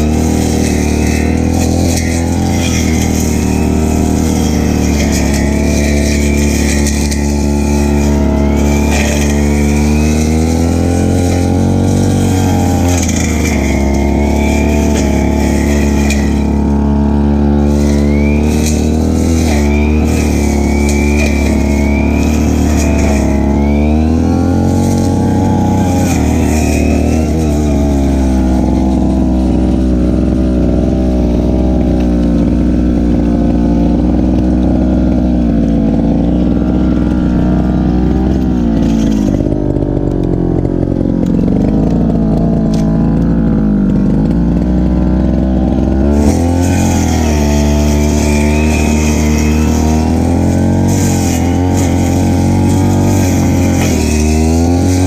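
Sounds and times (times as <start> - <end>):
brushcutter engine cutting grass: 0.0 - 55.0.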